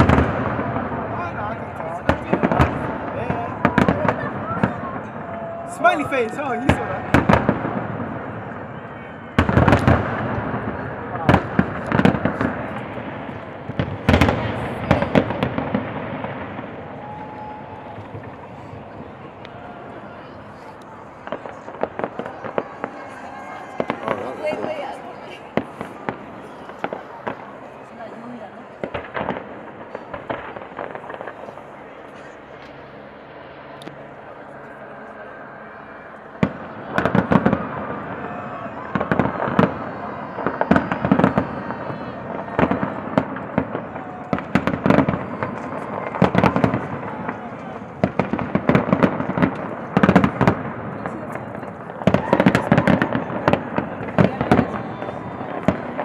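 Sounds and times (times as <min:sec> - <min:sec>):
fireworks exploding: 0:00.0 - 0:56.0
steady background noise: 0:00.0 - 0:56.0.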